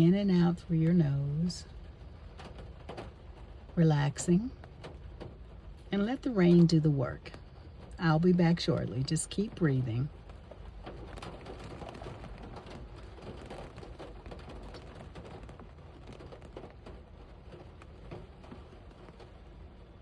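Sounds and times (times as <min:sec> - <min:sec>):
heavy rain pattering: 0:00.0 - 0:20.0.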